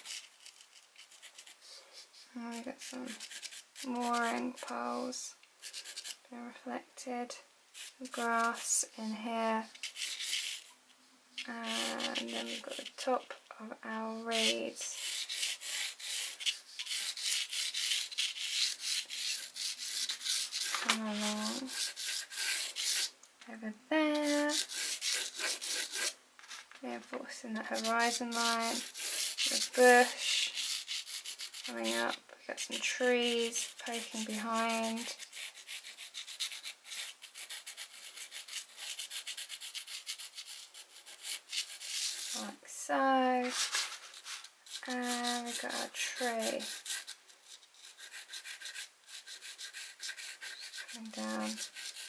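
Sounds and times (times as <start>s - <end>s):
pencil scratching on canvas: 0.0s - 6.2s, 7.8s - 10.7s, 11.4s - 13.3s, 14.0s - 23.1s, 24.0s - 26.7s, 27.4s - 42.6s, 43.4s - 52.0s.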